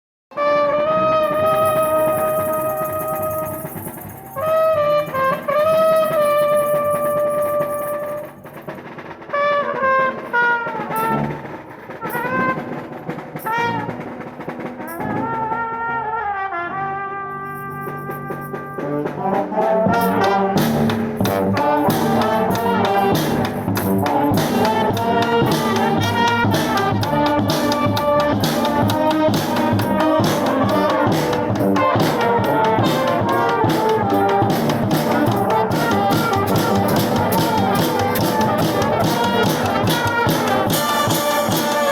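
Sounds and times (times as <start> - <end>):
brass band playing: 0.3 - 41.9
drums keeping a steady beat: 1.2 - 41.9.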